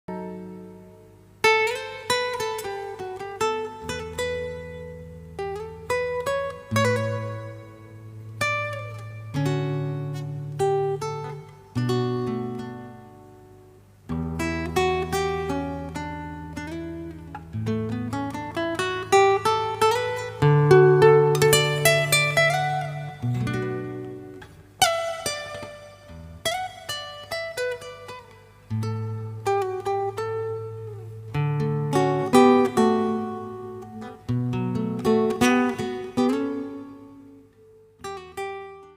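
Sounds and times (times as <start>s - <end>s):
acoustic guitar chords and notes: 0.0s - 38.9s.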